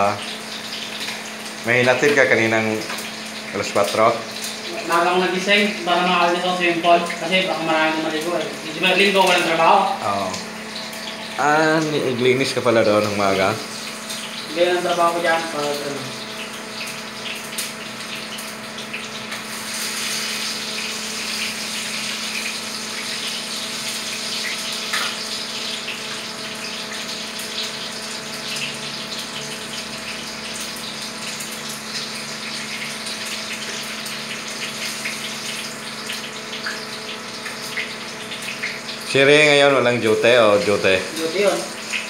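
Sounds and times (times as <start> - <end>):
food sizzling in hot oil: 0.0 - 42.0.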